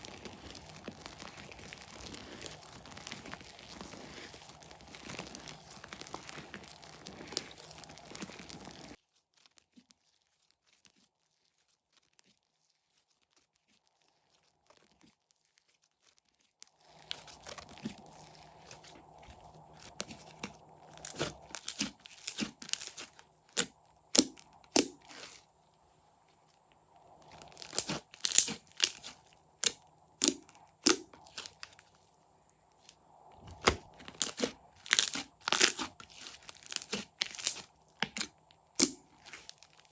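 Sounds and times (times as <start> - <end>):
slime squeezed crackling and popping: 0.0 - 25.5, 26.8 - 32.0, 32.8 - 39.9.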